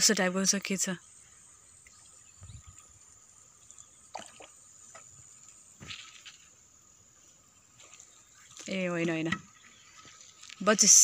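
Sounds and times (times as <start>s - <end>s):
faint high insect buzz: 0.0s - 11.0s
soft water drips and splashes: 1.6s - 10.8s.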